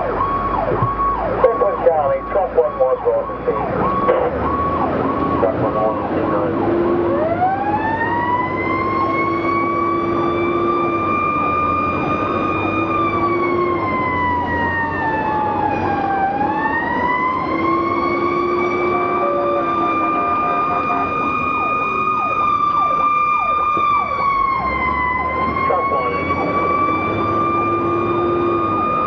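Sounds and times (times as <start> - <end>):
fire engine siren wailing: 0.0 - 29.0.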